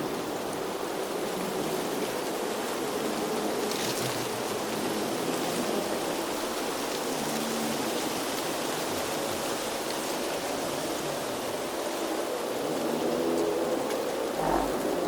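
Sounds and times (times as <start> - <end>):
outdoor nature ambience rushing: 0.0 - 15.0.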